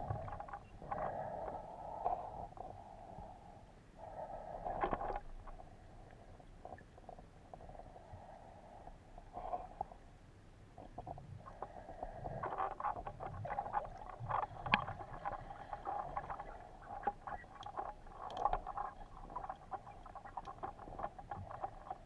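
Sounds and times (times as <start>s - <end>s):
faint underwater clicks and crackles: 0.0s - 22.0s.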